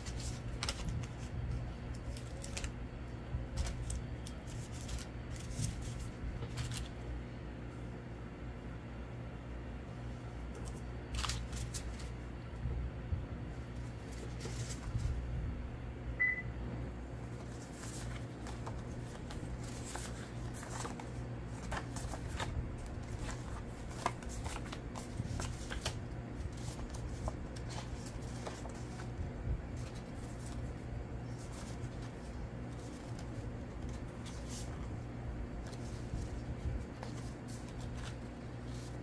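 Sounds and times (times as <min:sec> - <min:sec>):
paper cards rustling: 0:00.0 - 0:07.2, 0:10.4 - 0:12.3, 0:13.6 - 0:15.3, 0:17.2 - 0:39.0
steady low hum: 0:00.0 - 0:39.0.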